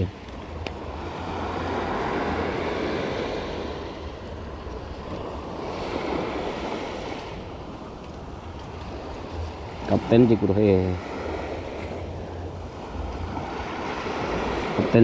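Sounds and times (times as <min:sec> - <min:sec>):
small waves breaking on sand: 0:00.0 - 0:15.0
wind rumble on microphone: 0:00.0 - 0:15.0.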